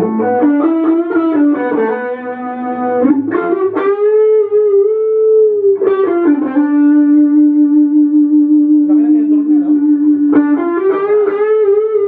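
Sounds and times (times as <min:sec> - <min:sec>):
electric guitar notes ringing: 0:00.0 - 0:12.0.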